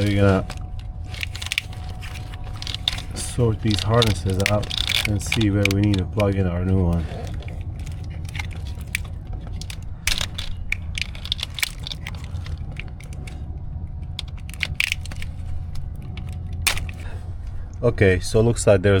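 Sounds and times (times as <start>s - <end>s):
plastic connectors clicking and rattling: 0.0s - 17.6s
steady low hum: 0.0s - 19.0s.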